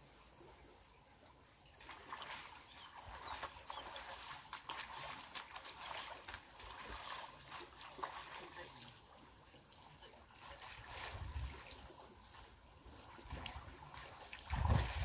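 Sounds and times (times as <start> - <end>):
water splashing in a stream: 0.0 - 15.0.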